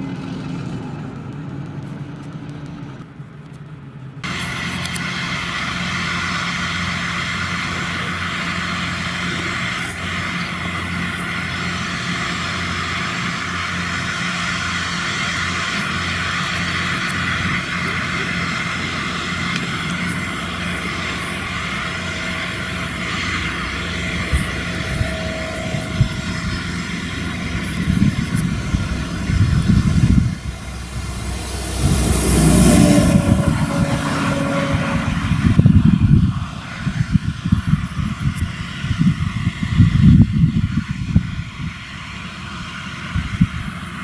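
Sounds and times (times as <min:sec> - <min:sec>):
harvester engine hum and whine: 0:00.0 - 0:44.0
tractor passing: 0:00.0 - 0:44.0.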